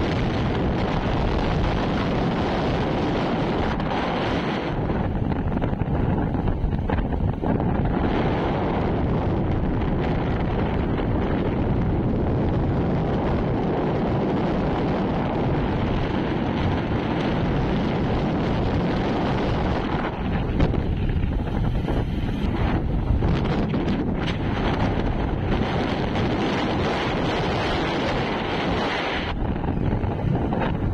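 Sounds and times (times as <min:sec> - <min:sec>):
vehicle and tyres rumbling: 0:00.0 - 0:30.9
wind buffeting microphone: 0:00.0 - 0:30.9.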